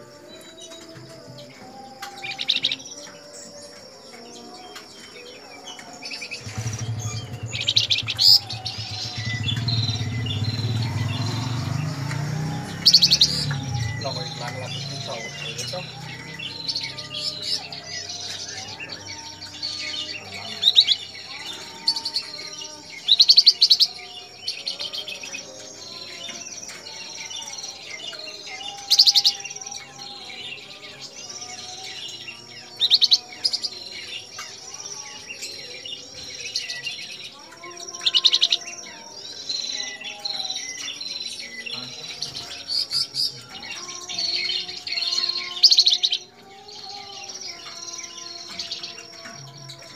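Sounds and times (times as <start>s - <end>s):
birds whistling: 0.0s - 49.9s.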